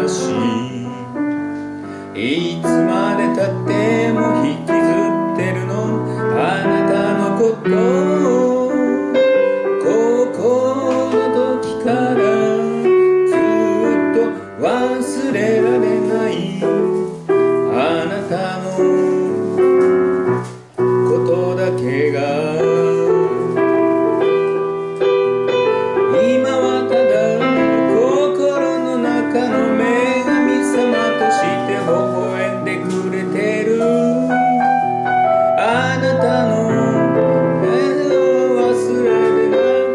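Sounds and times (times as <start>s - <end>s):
piano accompaniment: 0.0s - 39.9s.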